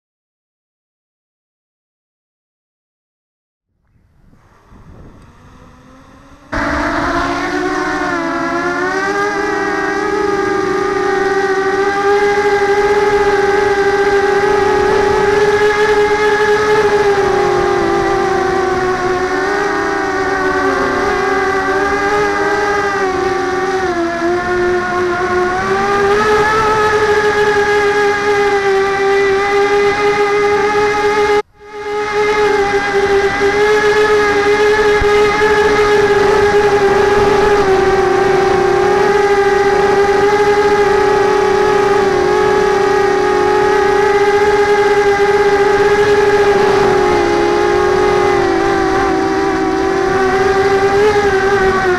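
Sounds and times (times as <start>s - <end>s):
quadcopter motor whine: 4.0s - 51.9s.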